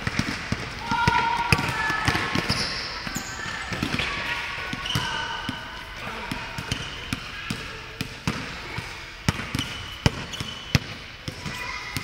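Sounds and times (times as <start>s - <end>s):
basketball bouncing on wooden court: 0.0s - 5.6s, 6.3s - 12.0s
sneakers squeaking on floor: 0.0s - 12.0s.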